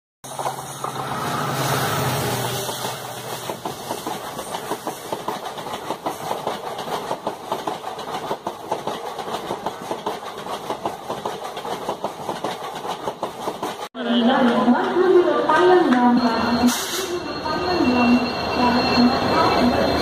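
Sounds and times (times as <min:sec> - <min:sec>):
train wheels clattering: 0:00.3 - 0:17.1.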